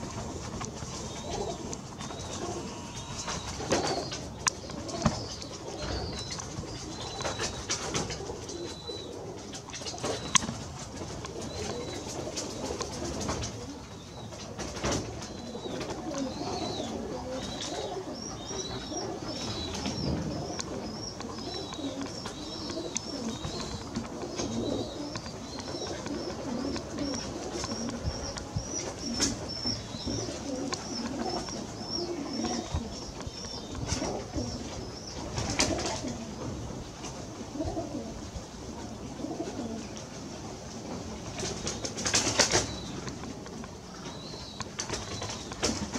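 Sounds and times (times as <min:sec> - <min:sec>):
pigeons cooing: 0:00.0 - 0:45.9.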